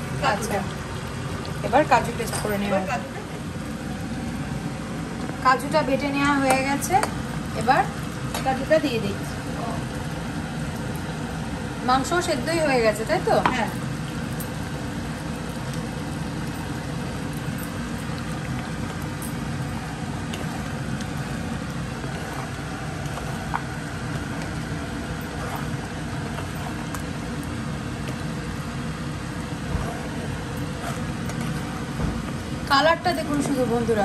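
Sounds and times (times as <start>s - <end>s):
stew bubbling and popping: 0.0s - 5.6s, 6.5s - 11.8s, 12.9s - 33.7s
steady low hum: 0.0s - 34.0s.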